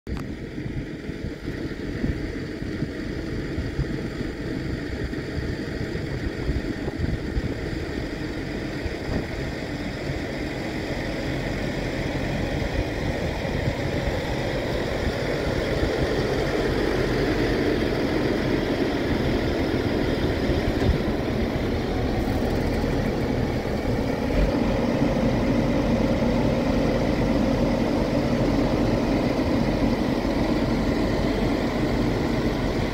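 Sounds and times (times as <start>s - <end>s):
tractor diesel engine running: 0.1s - 32.9s.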